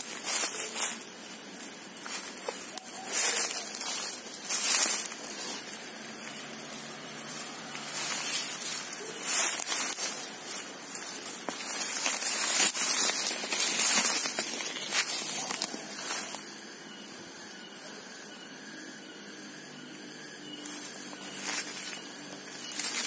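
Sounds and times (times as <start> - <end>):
footsteps crunching dry leaves: 0.0 - 16.6, 20.6 - 23.0.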